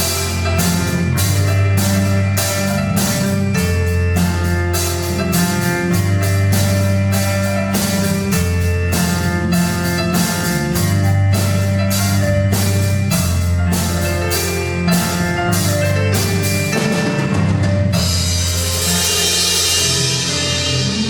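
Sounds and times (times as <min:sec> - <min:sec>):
drum kit beat: 0:00.0 - 0:21.0
live band music: 0:00.0 - 0:21.0.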